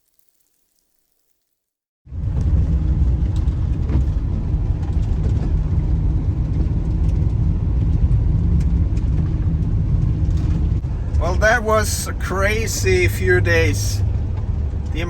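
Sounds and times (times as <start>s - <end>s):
van engine running: 2.1s - 15.0s.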